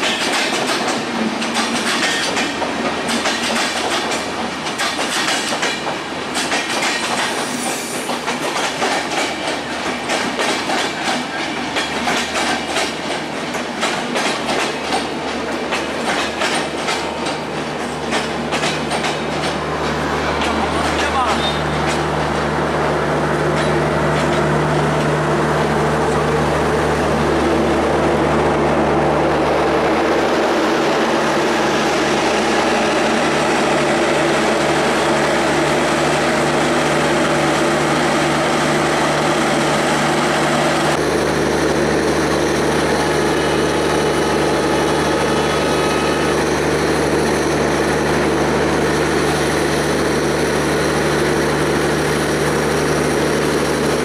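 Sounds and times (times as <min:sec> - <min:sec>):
rolling train coaches: 0:00.0 - 0:54.0
train engine drone: 0:00.0 - 0:54.0.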